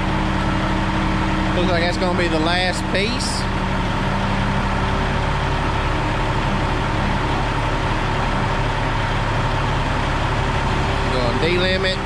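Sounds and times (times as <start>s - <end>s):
heavy diesel engine humming: 0.0s - 12.0s.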